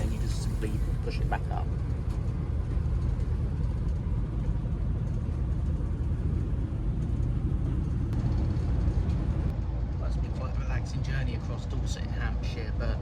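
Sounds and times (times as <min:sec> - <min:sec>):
train engine and wheels rumble: 0:00.0 - 0:13.0.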